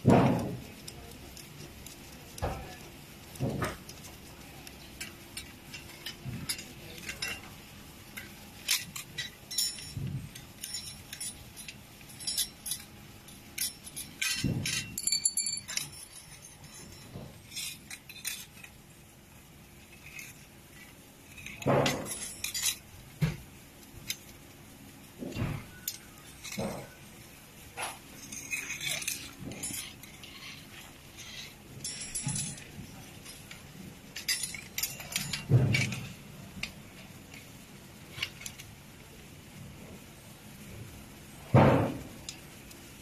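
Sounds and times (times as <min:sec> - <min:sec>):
light metallic clinks and clicks: 0:00.0 - 0:18.8, 0:19.8 - 0:23.0, 0:25.2 - 0:39.2, 0:41.5 - 0:42.9.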